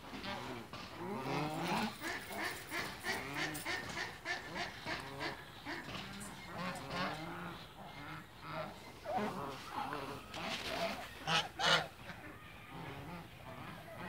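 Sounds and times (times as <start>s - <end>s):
many birds calling: 0.1s - 14.0s.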